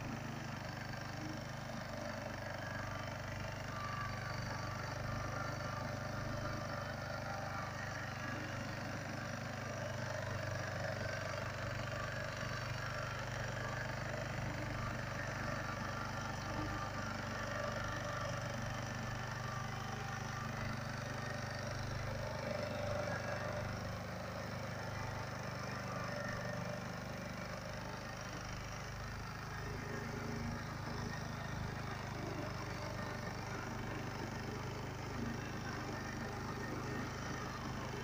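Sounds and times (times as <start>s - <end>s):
small tractor engine running: 0.0s - 38.0s.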